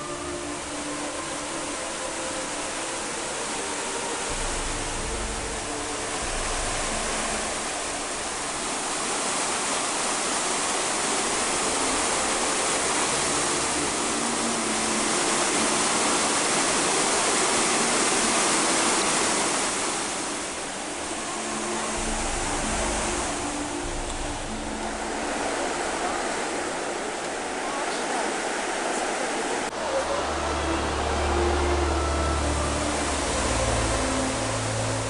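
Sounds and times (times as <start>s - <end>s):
water rushing over boulders: 0.0s - 35.0s.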